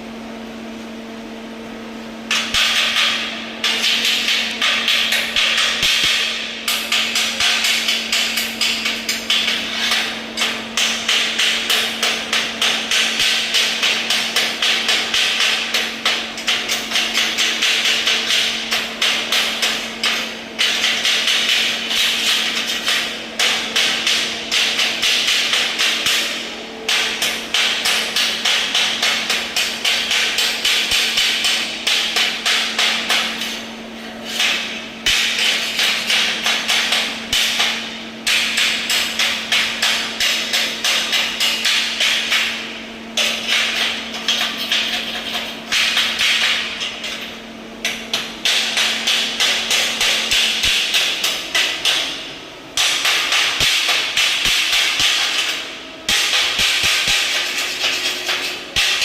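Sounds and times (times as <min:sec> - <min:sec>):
hammer striking metal: 0:02.3 - 0:33.6, 0:34.2 - 0:59.0.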